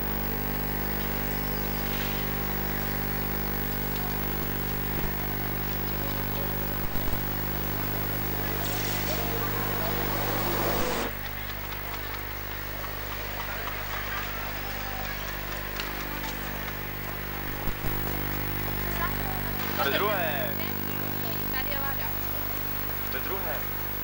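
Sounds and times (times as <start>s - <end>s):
street traffic hum: 0.3s - 24.0s.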